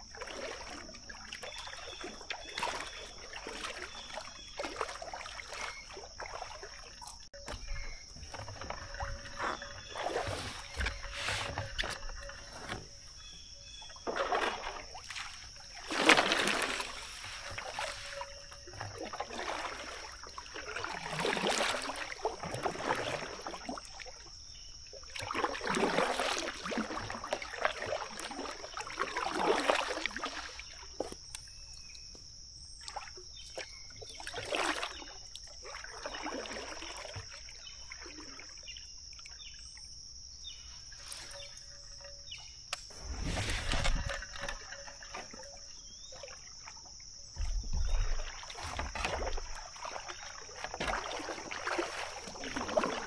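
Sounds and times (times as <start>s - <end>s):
paddle splashing in water: 0.0s - 53.0s.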